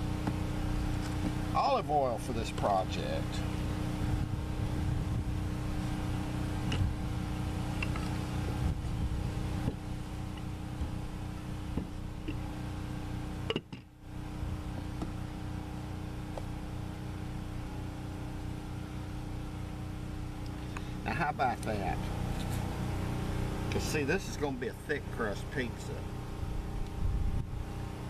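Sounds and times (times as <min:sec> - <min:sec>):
engine droning: 0:00.0 - 0:28.0.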